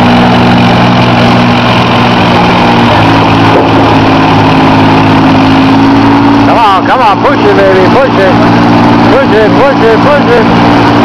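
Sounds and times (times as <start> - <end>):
tractor engine running hard: 0.0 - 11.0.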